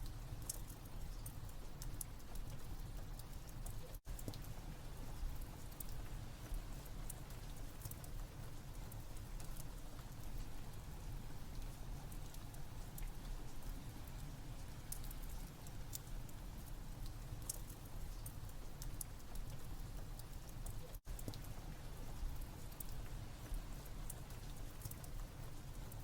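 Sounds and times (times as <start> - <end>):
steady rain: 0.0 - 26.0
wood fire crackling: 0.2 - 26.0.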